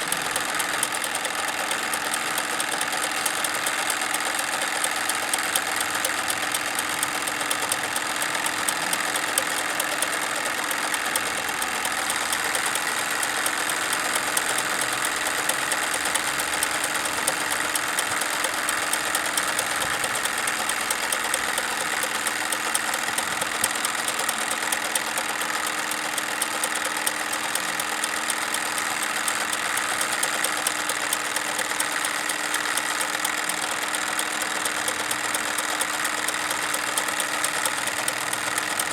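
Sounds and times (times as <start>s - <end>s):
steady mechanical hum: 0.0s - 38.9s
toy steam engine running: 0.0s - 38.9s.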